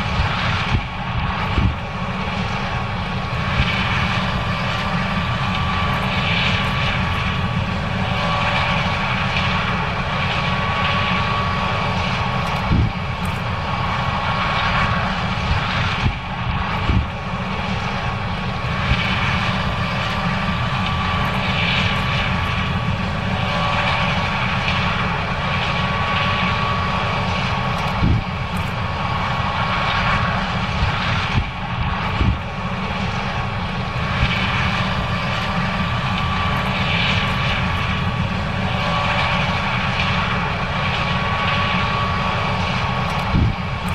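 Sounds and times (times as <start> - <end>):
combine engine drone: 0.0 - 43.9
thin steady whine: 0.0 - 43.9.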